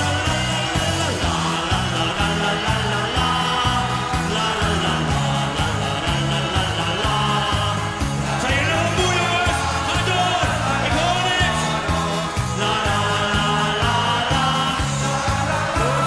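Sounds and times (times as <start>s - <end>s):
live band playing party song: 0.0s - 16.0s
person singing: 0.0s - 16.0s.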